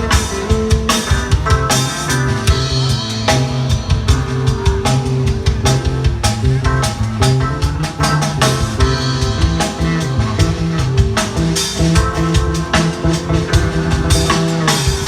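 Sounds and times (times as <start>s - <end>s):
loud rock music over speakers: 0.0s - 15.0s.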